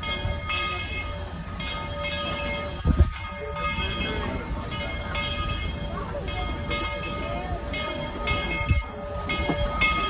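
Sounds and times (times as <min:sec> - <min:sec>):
steam locomotive rumbling: 0:00.0 - 0:10.0.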